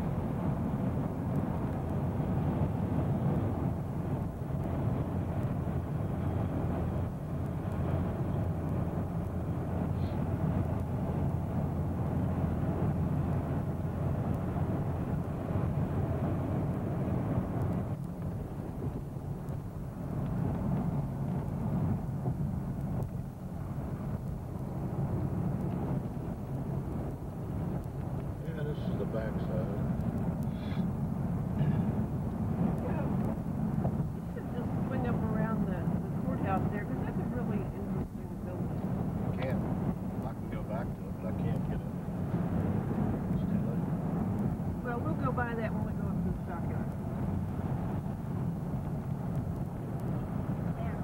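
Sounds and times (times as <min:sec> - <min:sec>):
car road noise: 0:00.0 - 0:51.0.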